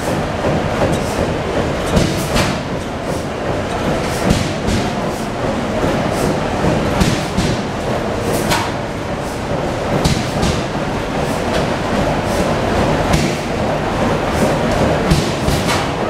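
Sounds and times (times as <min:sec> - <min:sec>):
stationary engines rumbling: 0:00.0 - 0:16.0
sharp engine knocks: 0:00.3 - 0:11.9, 0:12.7 - 0:13.6, 0:14.4 - 0:16.0.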